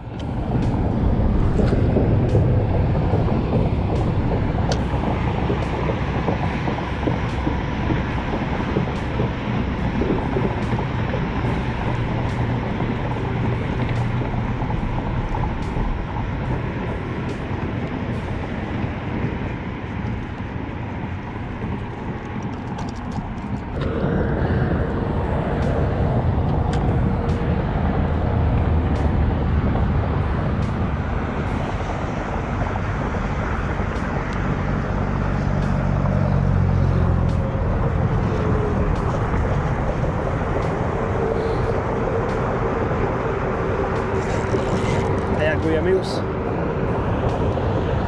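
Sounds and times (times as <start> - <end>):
deep engine hum: 0.0 - 48.0
rumble of passing vehicles: 0.0 - 48.0.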